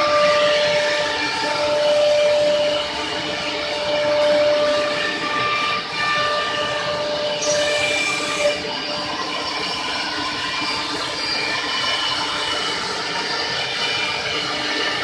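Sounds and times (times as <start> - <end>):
wood router running: 0.0 - 15.0.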